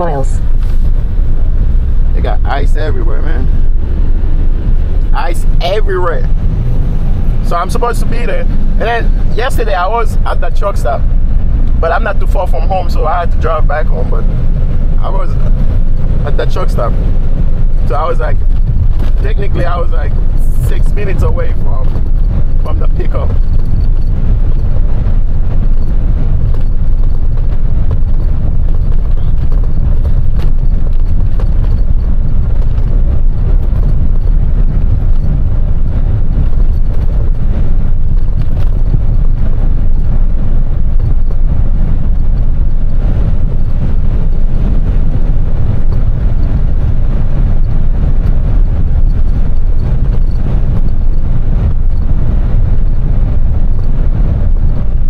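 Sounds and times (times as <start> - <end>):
truck engine and road rumble: 0.0 - 55.0.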